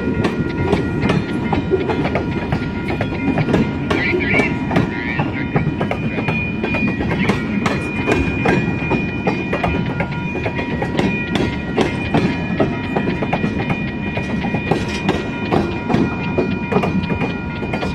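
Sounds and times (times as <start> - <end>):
freight train wheels rumbling: 0.0 - 17.9.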